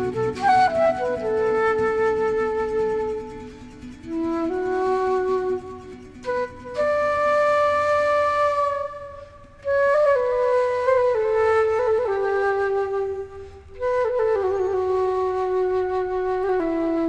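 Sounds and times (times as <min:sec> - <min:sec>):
flute playing slow melody: 0:00.0 - 0:17.0.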